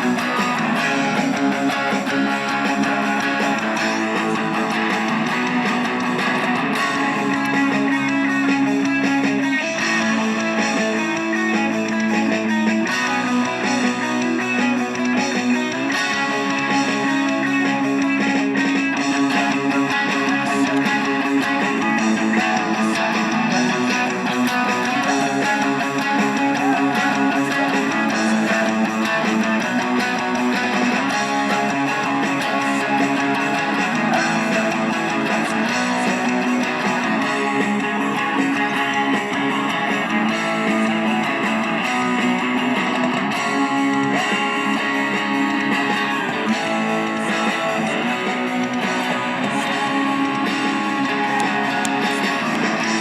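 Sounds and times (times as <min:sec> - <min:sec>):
band music with strummed guitars: 0:00.0 - 0:53.0.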